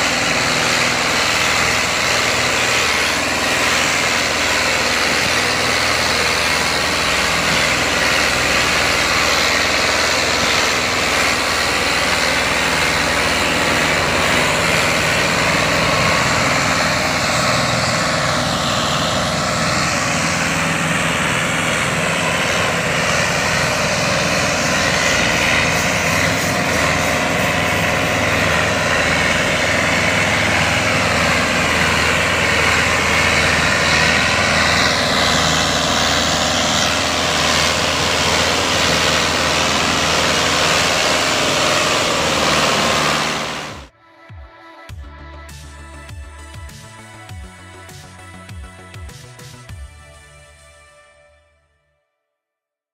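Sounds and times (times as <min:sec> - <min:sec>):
tractor engines under heavy load: 0:00.0 - 0:43.9, 0:45.5 - 0:50.8.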